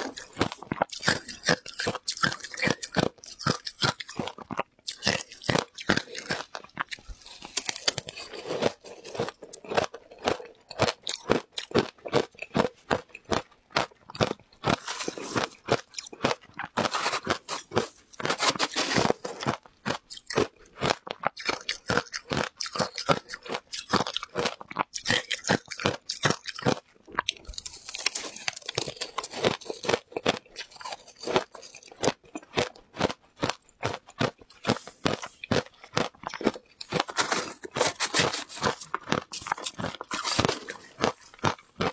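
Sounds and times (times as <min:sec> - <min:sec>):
ice crunched while chewing: 0:00.0 - 0:41.9.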